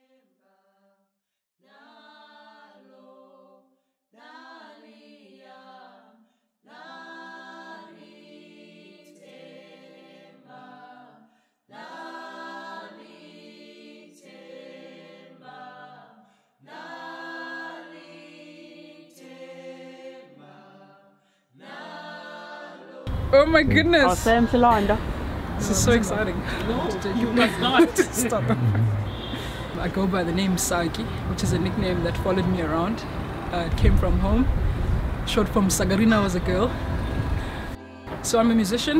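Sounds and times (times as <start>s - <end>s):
voices singing in harmony: 1.6s - 33.6s.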